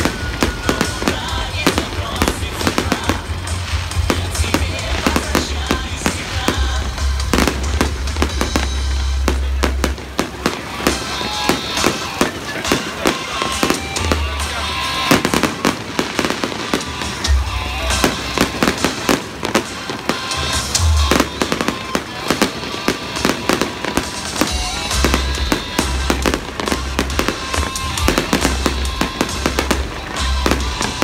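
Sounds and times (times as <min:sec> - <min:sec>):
deep fireworks booms: 0:00.0 - 0:31.0
fireworks bursts and crackling bangs: 0:00.0 - 0:31.0.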